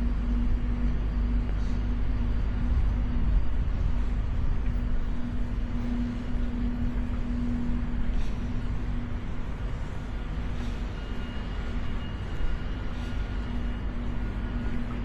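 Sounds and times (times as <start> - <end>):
droning hum: 0.0 - 15.0
low engine rumble: 0.0 - 15.0.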